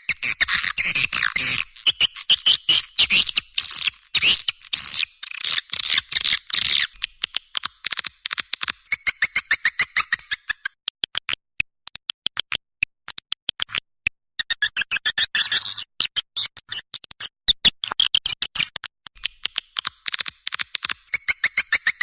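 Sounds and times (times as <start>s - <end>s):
bird chirps and clicks: 0.1s - 22.0s.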